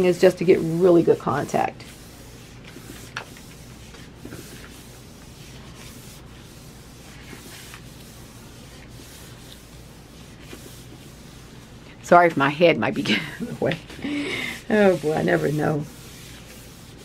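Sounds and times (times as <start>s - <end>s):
palms rubbing on paper: 0.0s - 12.0s, 13.6s - 17.0s.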